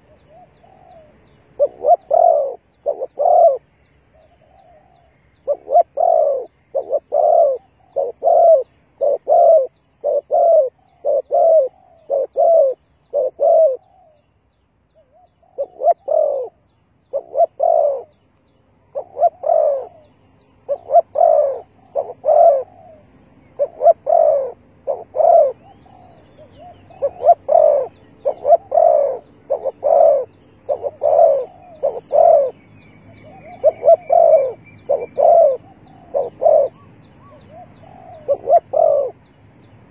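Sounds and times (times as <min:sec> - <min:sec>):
doves cooing: 0:00.0 - 0:14.3, 0:15.0 - 0:18.2, 0:18.8 - 0:39.3.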